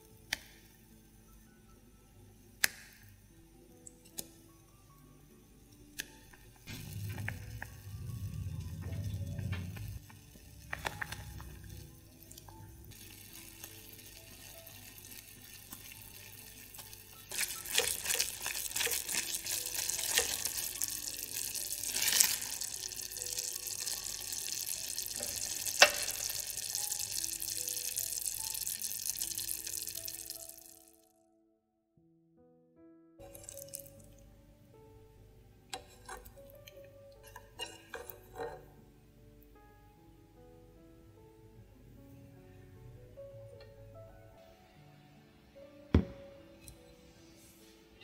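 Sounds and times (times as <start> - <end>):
soft background music: 0.0 - 48.0.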